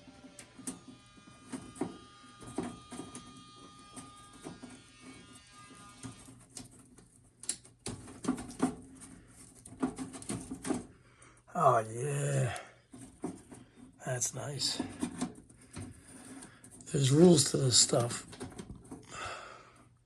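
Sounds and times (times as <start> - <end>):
hands working on wiring: 0.0 - 20.0.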